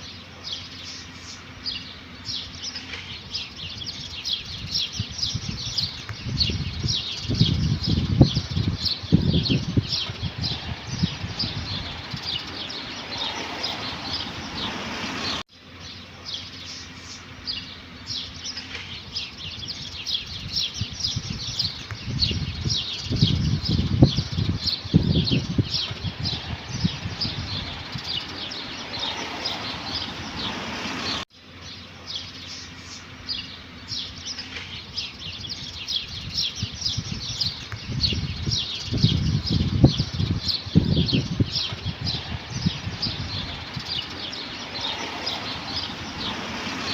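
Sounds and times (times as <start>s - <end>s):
small birds chirping: 0.0s - 46.9s
low fluttering rumbles: 1.4s - 15.4s, 17.4s - 31.8s, 33.3s - 46.9s.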